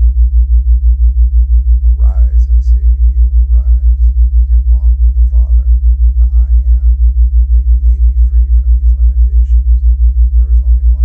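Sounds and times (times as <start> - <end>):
deep pulsing hum: 0.0 - 11.0.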